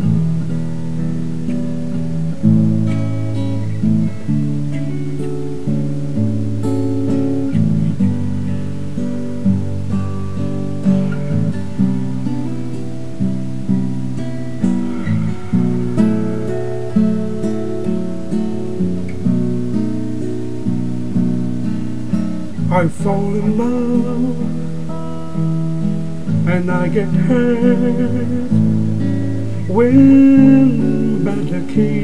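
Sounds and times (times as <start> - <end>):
acoustic guitar strumming chords: 0.0 - 32.0.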